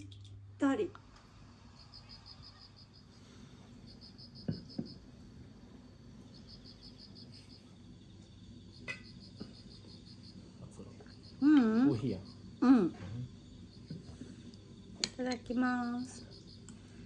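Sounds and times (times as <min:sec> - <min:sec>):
crickets chirping: 0:00.2 - 0:17.0.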